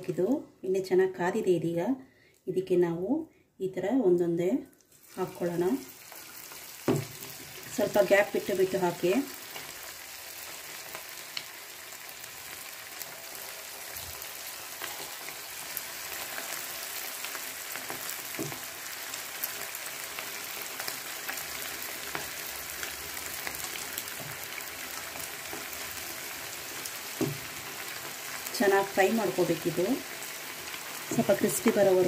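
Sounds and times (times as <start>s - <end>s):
battered food deep-frying in oil: 4.9s - 32.0s.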